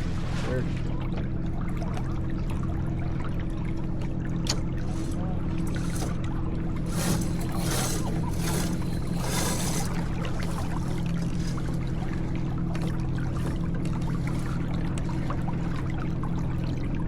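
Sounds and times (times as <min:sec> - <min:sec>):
steady low hum: 0:00.0 - 0:17.0
water rushing along boat hull: 0:00.0 - 0:17.0.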